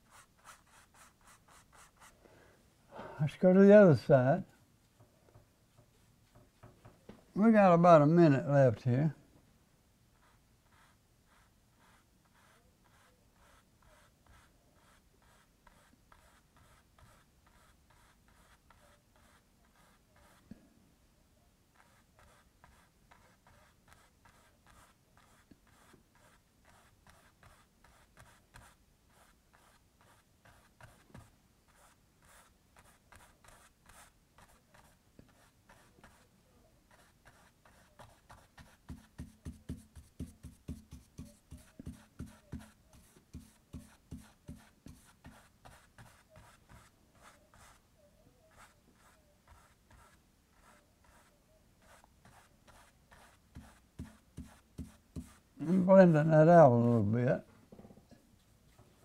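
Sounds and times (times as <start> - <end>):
paintbrush strokes on canvas: 0.0 - 2.2, 10.2 - 20.6, 21.7 - 36.3, 36.9 - 57.2.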